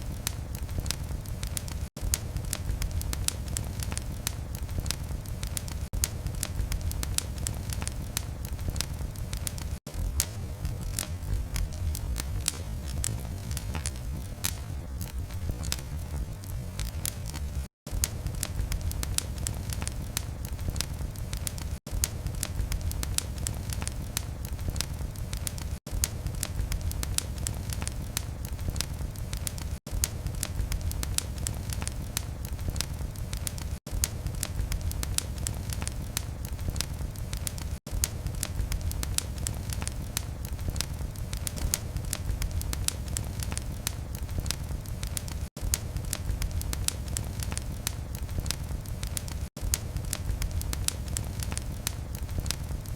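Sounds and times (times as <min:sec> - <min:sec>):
low fire rumble: 0:00.0 - 0:52.9
wood fire crackling and popping: 0:00.0 - 0:52.9.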